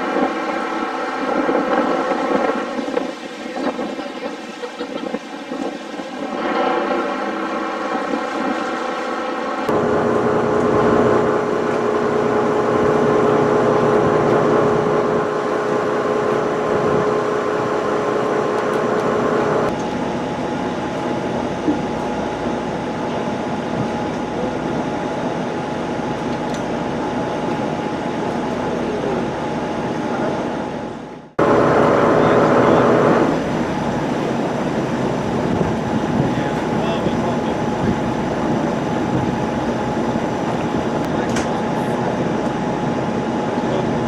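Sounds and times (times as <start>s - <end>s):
boat diesel engines droning: 0.0s - 44.0s.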